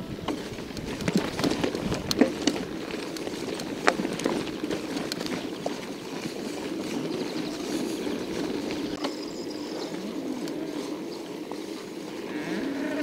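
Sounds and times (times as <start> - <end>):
bicycle tyres rolling: 0.0 - 13.0.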